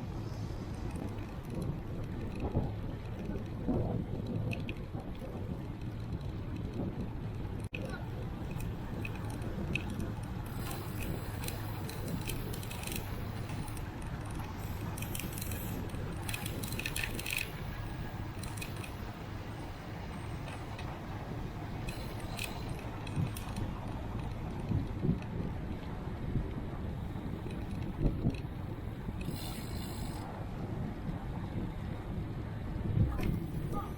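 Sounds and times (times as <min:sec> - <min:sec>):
bicycle wind and road rumble: 0:00.0 - 0:33.9.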